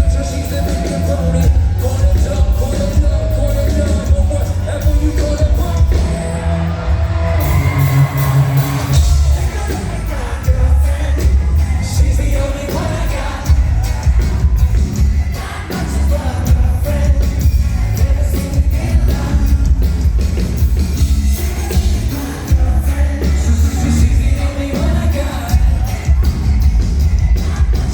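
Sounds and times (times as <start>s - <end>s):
crowd noise: 0.0s - 27.9s
live pop-rock band playing: 0.0s - 27.9s
person singing lead vocal: 0.0s - 27.9s.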